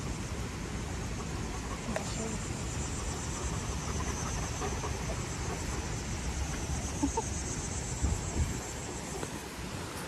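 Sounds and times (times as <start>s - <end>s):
high insect drone: 0.0s - 10.0s
wind: 0.0s - 10.0s.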